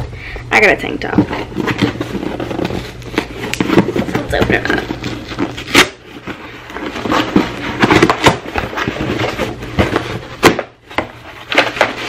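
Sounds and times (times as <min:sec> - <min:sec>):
cardboard flaps scraping and rustling: 0:01.1 - 0:12.0
sharp cardboard cracks: 0:01.3 - 0:12.0.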